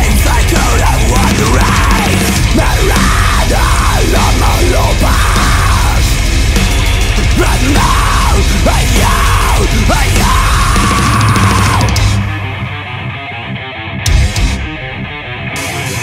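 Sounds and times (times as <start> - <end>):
heavy metal song: 0.0 - 16.0.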